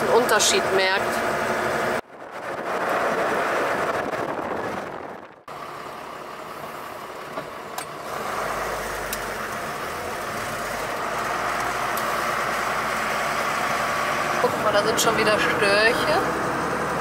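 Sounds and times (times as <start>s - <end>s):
diesel engine rumble: 0.0s - 17.0s
road and wind noise: 0.0s - 17.0s.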